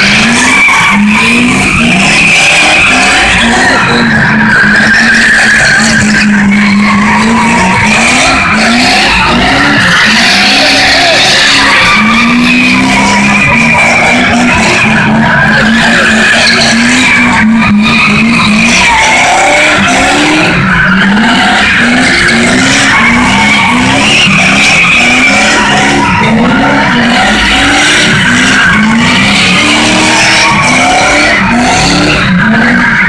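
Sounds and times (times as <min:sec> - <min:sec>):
car engines revving: 0:00.0 - 0:33.0
tyres squealing: 0:00.0 - 0:33.0.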